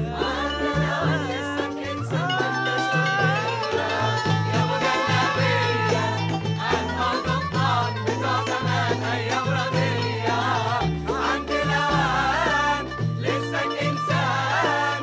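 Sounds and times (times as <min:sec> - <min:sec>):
choir singing in unison: 0:00.0 - 0:15.0
hand drums: 0:00.0 - 0:15.0
keyboard with bass line: 0:00.0 - 0:15.0.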